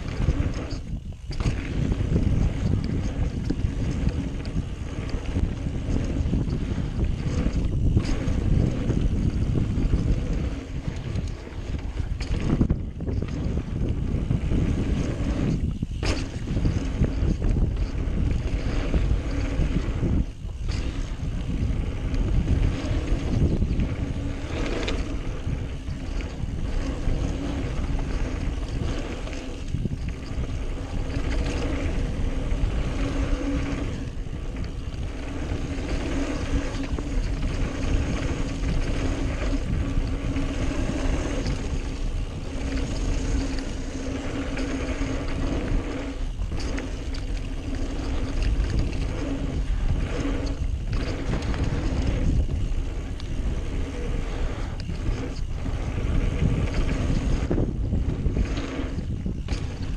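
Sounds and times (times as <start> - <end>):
bike tyres on dirt: 0.0 - 59.9
wind buffeting microphone: 0.0 - 59.9.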